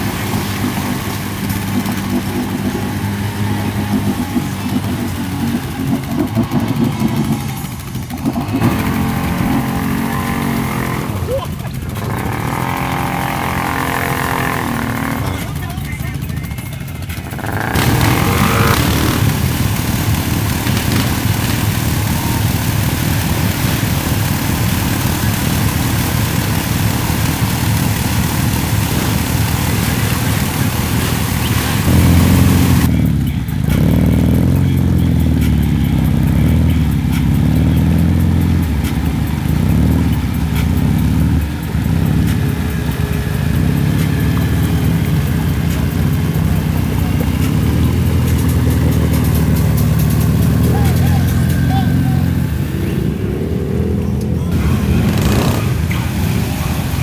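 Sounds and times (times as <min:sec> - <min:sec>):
hissing wash: 0:00.0 - 0:15.6, 0:16.9 - 0:32.9, 0:38.4 - 0:57.0
off-road engines in mud: 0:00.0 - 0:57.0.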